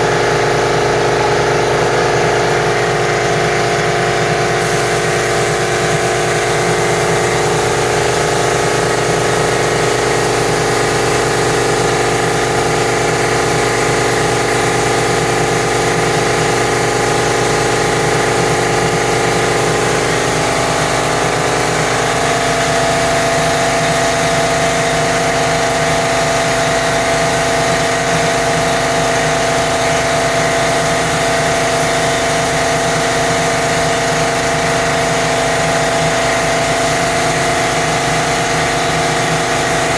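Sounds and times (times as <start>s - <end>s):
paint sprayer motor humming: 0.0s - 39.9s.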